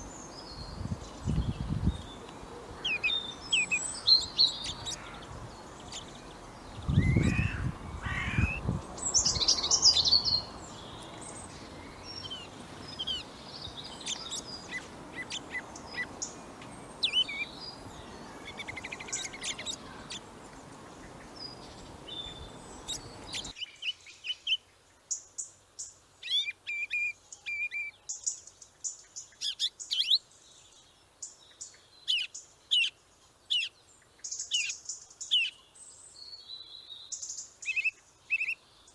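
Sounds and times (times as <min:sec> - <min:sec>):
outdoor background hiss: 0:00.0 - 0:38.9
small birds chirping: 0:00.0 - 0:38.9.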